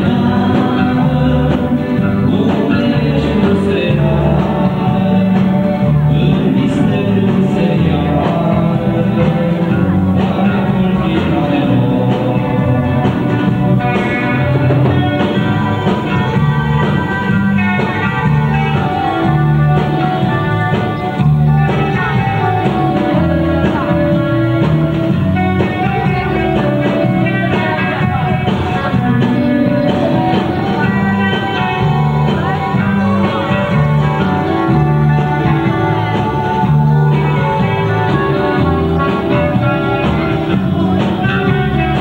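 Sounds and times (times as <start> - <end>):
loud music with bass line: 0.0 - 42.0.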